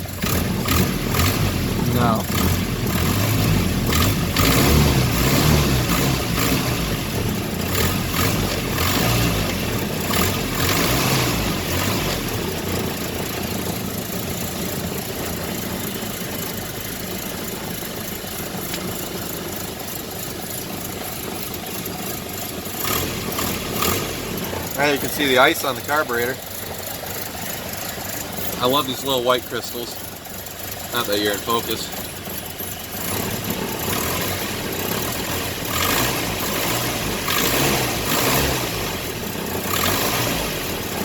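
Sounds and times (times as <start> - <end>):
car engine running: 0.0 - 41.0
engine tapping noise: 0.0 - 41.0.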